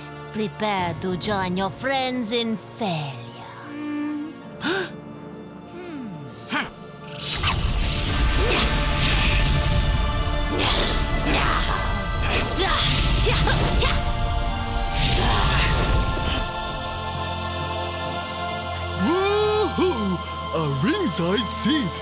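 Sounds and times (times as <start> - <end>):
dramatic music: 0.0 - 22.0.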